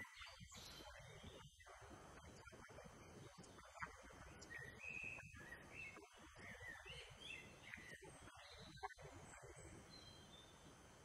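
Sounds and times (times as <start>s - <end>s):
faint woodland birdsong: 0.0s - 11.0s.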